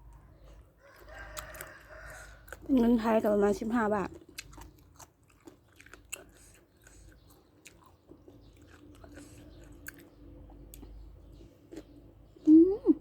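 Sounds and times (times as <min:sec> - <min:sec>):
chewing crunchy food: 0:00.0 - 0:12.6.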